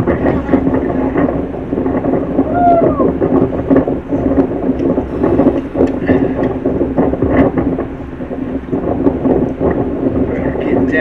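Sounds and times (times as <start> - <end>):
low engine hum: 0.0 - 11.0
wind buffeting microphone: 0.0 - 11.0.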